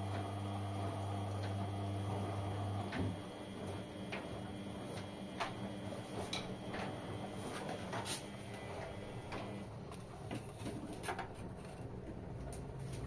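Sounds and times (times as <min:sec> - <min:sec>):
washing machine hum: 0:00.0 - 0:13.0.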